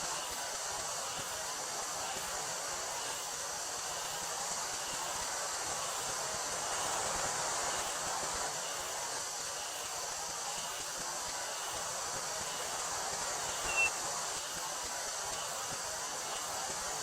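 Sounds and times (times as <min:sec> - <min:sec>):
cicadas chorus: 0:00.0 - 0:17.0.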